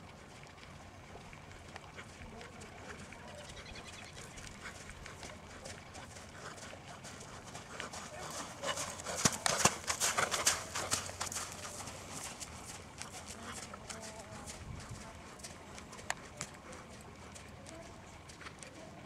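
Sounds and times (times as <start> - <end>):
horse hooves trotting on sand: 0.0 - 19.0.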